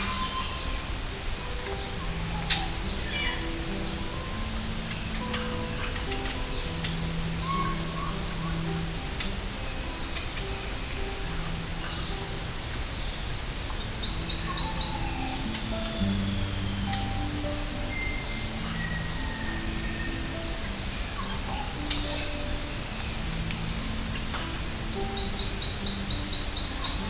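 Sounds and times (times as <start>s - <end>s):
crickets chirping: 0.0s - 27.0s
descending bird chirps: 0.0s - 27.0s
soft low music: 0.0s - 27.0s.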